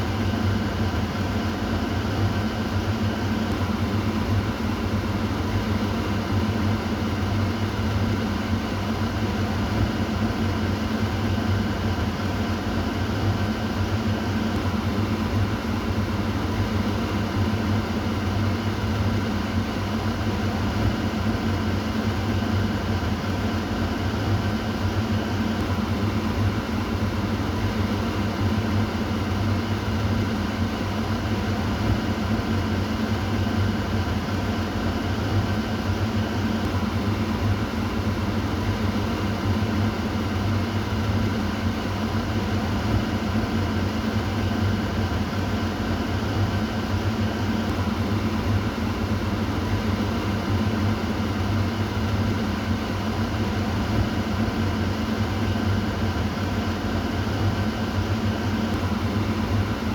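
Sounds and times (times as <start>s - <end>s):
kitchen exhaust fan running: 0.0s - 59.9s.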